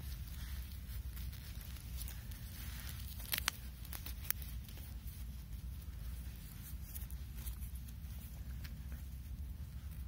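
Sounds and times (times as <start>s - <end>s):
rustling of fur and fabric: 0.0s - 10.0s
steady low rumble: 0.0s - 10.0s.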